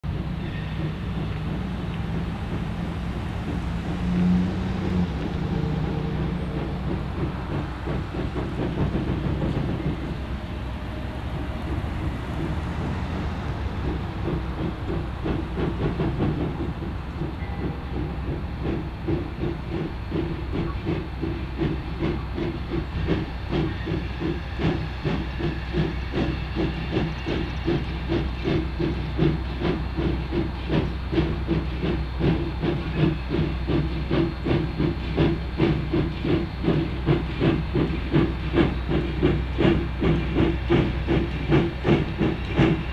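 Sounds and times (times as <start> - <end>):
steam locomotive chuffing: 0.0 - 42.9
hiss of steam: 0.1 - 42.9.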